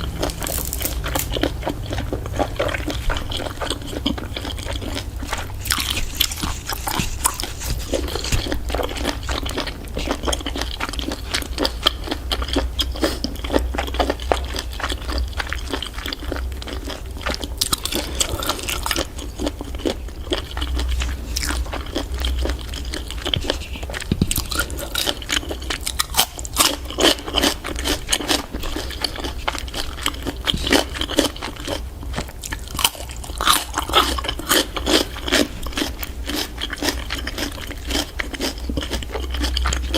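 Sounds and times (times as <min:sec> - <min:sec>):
chewing and crunching: 0:00.0 - 0:39.9
steady low hum: 0:00.0 - 0:39.9.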